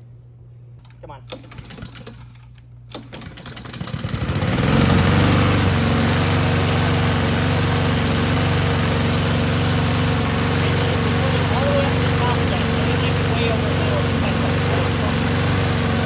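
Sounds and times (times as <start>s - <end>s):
lawn mower engine starting and running: 0.8s - 16.0s.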